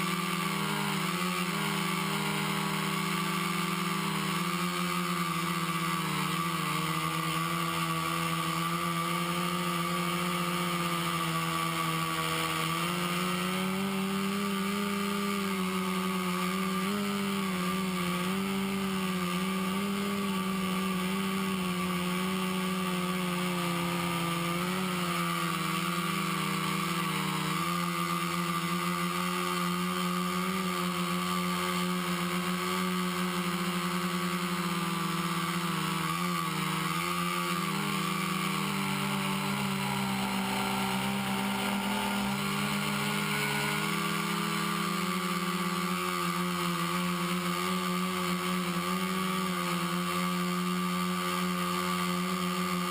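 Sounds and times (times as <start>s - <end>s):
quadcopter motors buzzing: 0.0s - 52.9s.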